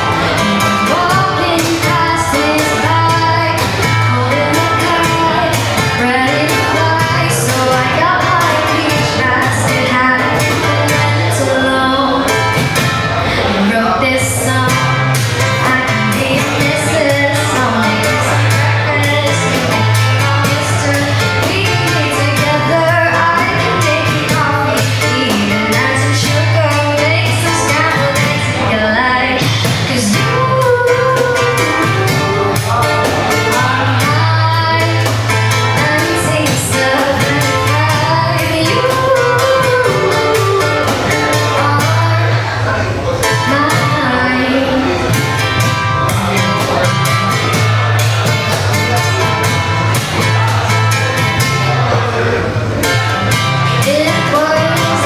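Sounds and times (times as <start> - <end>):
beatboxed percussion: 0.0 - 13.6, 14.2 - 55.0
woman singing: 0.0 - 49.2, 53.3 - 55.0
strummed acoustic guitars: 0.0 - 55.0.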